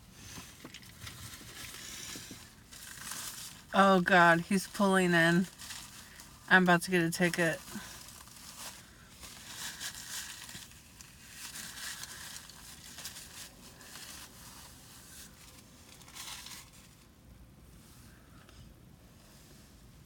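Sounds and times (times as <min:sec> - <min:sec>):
rustling handling noise: 0:00.0 - 0:18.1.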